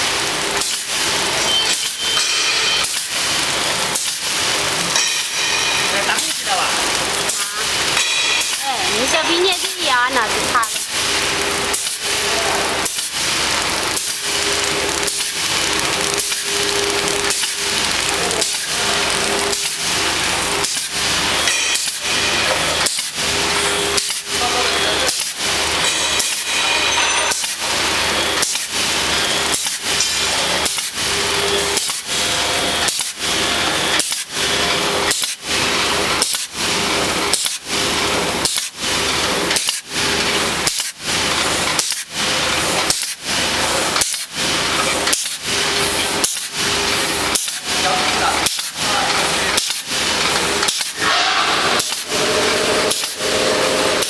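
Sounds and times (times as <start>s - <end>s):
bag making machine running: 0.0s - 54.0s.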